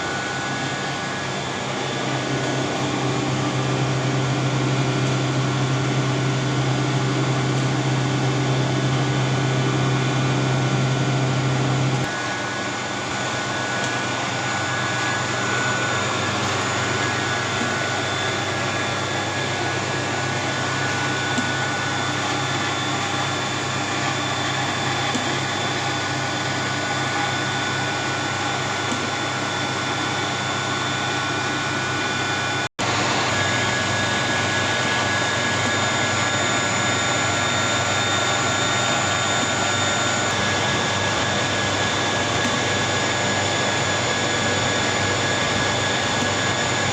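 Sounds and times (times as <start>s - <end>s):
electric motor hum: 0.0s - 46.9s.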